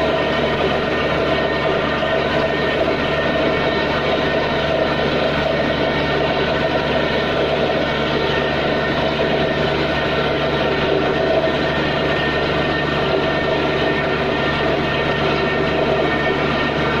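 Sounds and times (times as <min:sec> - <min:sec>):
drilling rig machine din: 0:00.0 - 0:17.0.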